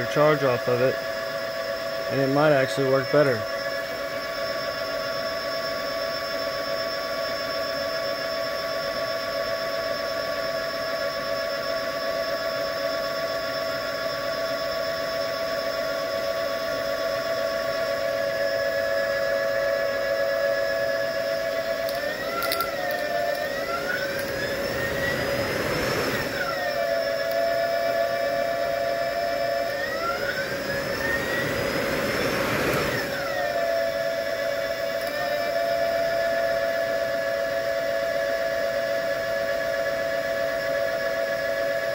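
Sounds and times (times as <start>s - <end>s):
electrical motor whine: 0.0s - 41.9s.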